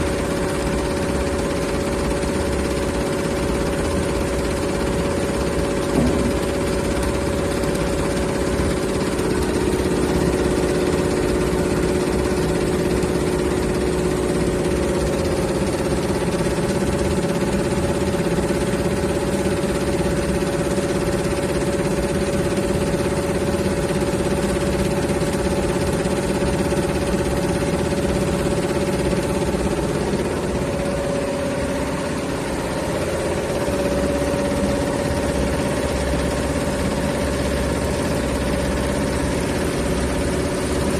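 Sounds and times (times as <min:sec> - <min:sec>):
embroidery machine running: 0:00.0 - 0:40.9.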